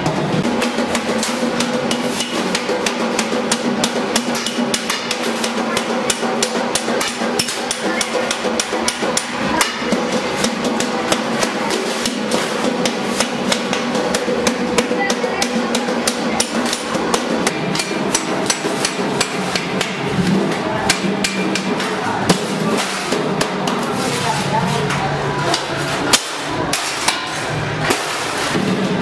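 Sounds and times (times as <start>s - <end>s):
shears clicking on metal sheet: 0.0s - 29.0s.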